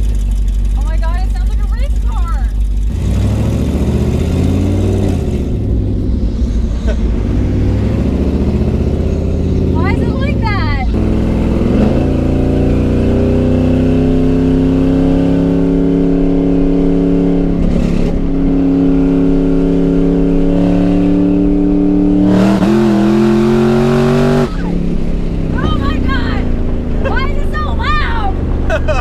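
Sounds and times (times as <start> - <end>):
loud car engine accelerating: 0.0 - 29.0.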